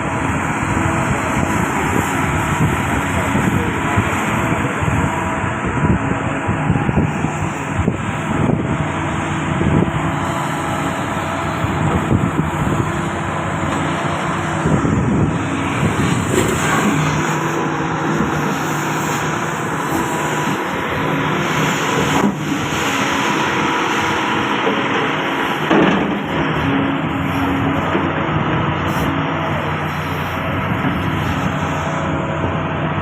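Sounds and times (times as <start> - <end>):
excavator diesel engine droning: 0.0 - 33.0.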